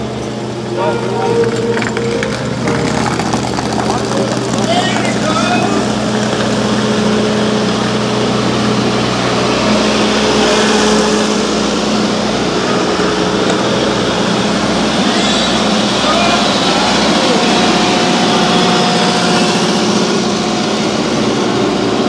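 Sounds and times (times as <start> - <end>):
engine running: 0.0 - 22.0
street noise: 0.0 - 22.0.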